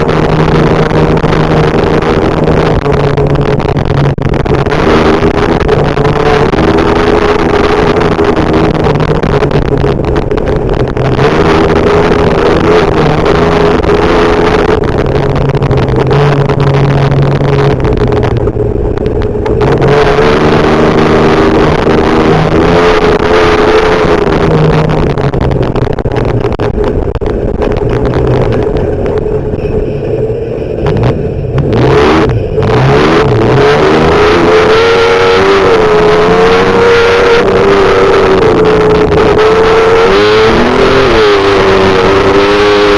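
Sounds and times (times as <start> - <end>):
truck engine revving high: 0.0 - 42.9.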